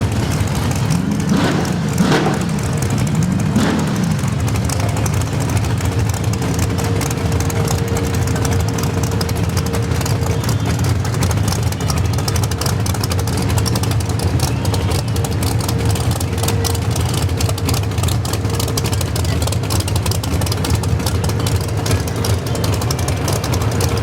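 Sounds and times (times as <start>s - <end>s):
engine throttle blip: 0.0s - 24.0s
vee eight engine idling: 0.0s - 24.0s.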